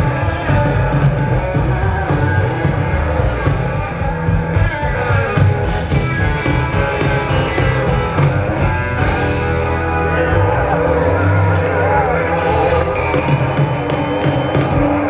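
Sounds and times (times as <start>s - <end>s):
electric guitar: 0.0s - 15.0s
rock band playing live: 0.0s - 15.0s.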